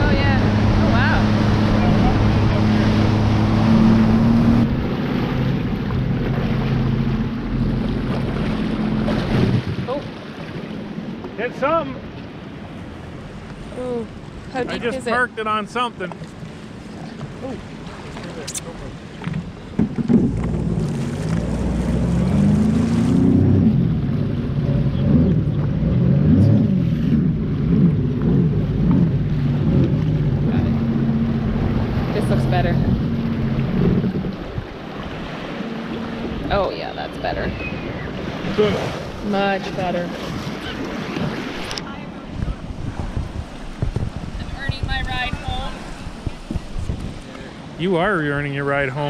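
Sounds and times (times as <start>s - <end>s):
wind on microphone: 0.0s - 11.2s, 19.2s - 48.4s
watercraft engine running: 0.0s - 49.0s.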